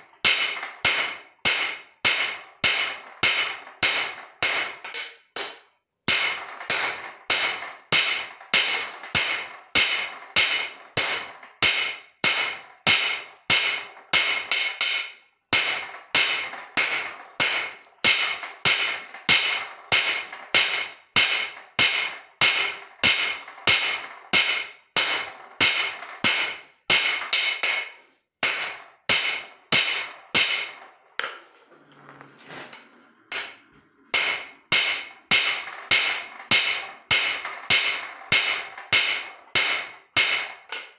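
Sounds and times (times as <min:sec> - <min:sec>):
hammer striking steel on anvil: 0:00.0 - 0:31.3, 0:33.3 - 0:40.9.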